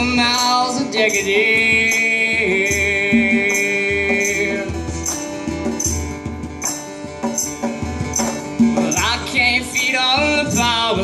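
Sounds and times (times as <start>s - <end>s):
steady percussion beat: 0.0s - 11.0s
strummed acoustic guitar: 0.0s - 11.0s.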